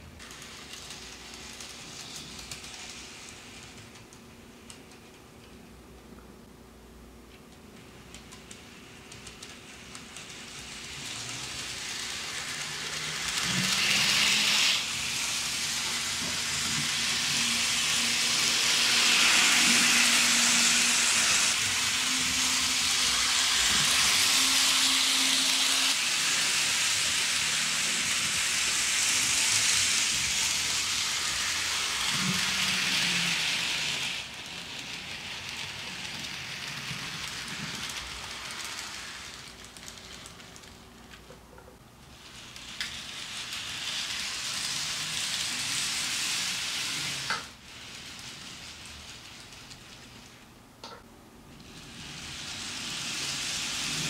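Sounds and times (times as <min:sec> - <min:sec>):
model train wheels rolling on rails: 0:00.0 - 0:05.6, 0:07.7 - 0:54.0.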